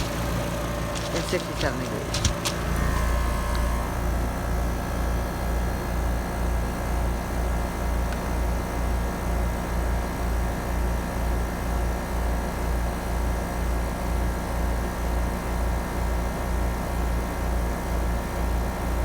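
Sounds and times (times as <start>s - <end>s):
heat pump low pulsing hum: 0.0s - 19.0s.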